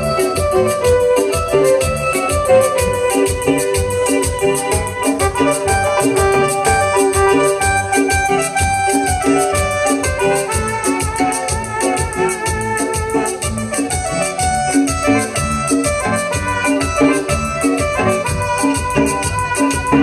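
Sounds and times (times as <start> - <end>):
bass and drum beat: 0.0 - 20.0
live dance band playing: 0.0 - 20.0
organ-like keyboard melody: 0.0 - 20.0.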